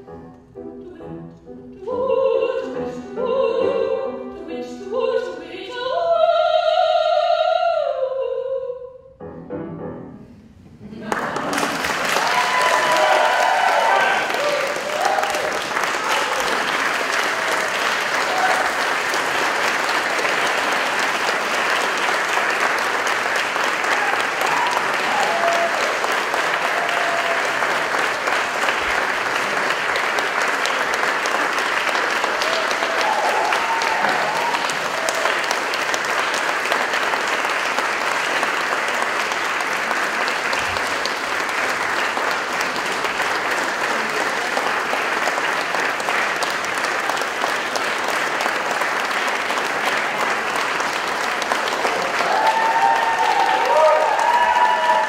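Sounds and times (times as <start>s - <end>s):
audience applauding: 10.9s - 55.0s.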